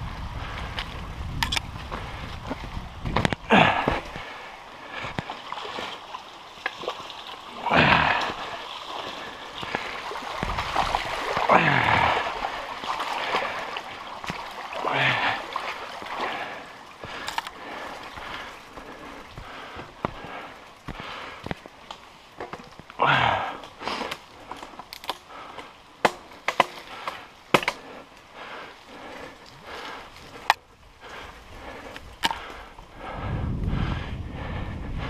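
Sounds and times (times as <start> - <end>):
bike tyres splashing through creek: 0.0 - 33.3.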